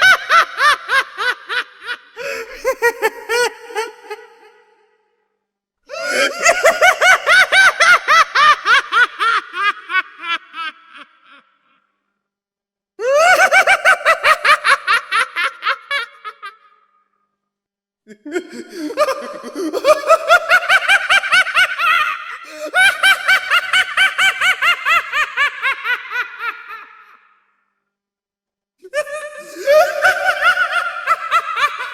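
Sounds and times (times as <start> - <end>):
high-pitched clown laugh: 0.0 - 4.7, 5.9 - 11.7, 13.0 - 16.9, 18.1 - 27.3, 28.8 - 31.9.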